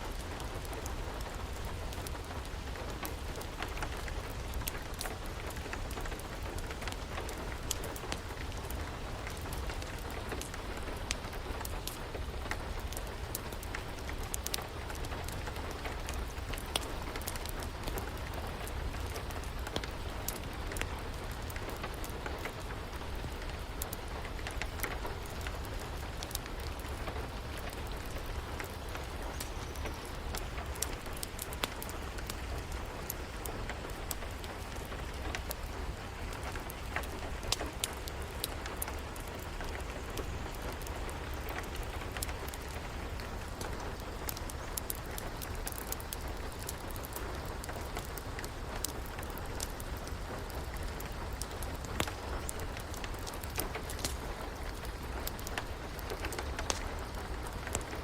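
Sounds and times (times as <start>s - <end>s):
steady rain: 0.0s - 58.0s
wood fire crackling and popping: 0.0s - 58.0s.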